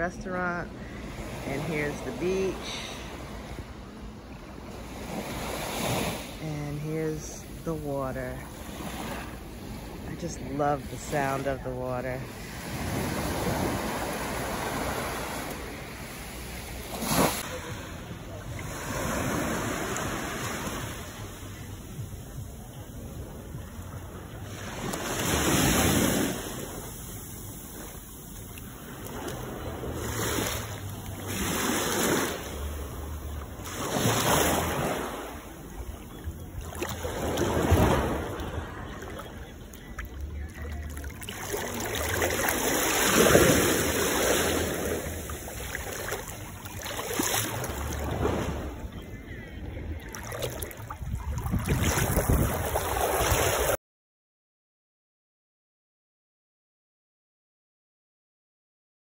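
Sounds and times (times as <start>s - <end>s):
small waves on sandy beach: 0.0s - 53.8s.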